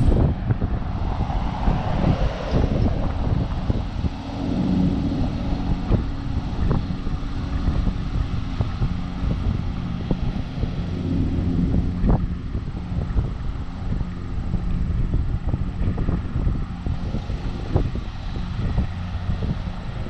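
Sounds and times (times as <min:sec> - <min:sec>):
riding lawn mower engine: 0:00.0 - 0:20.0
wind buffeting microphone: 0:00.0 - 0:20.0.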